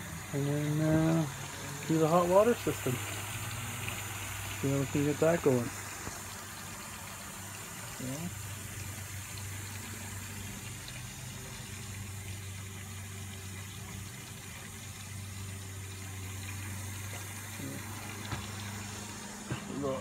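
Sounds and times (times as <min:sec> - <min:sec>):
water running into steel sink: 0:00.0 - 0:20.0.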